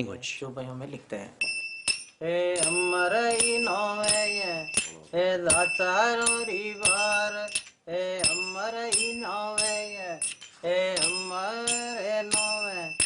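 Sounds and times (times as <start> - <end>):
small metal bells struck: 1.4 - 13.0.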